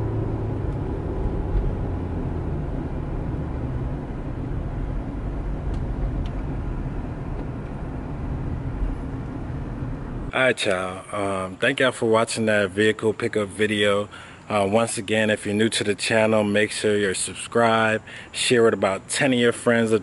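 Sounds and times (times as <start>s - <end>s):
low rumble of engine and tyres: 0.0s - 20.0s.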